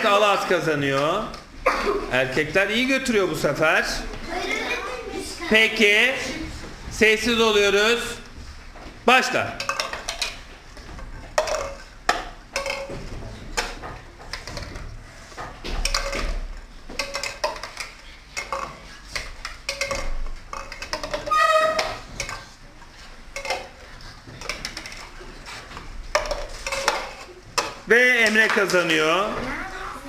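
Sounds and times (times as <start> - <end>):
plastic cups clattering on table: 0.0 - 3.4, 8.0 - 29.6.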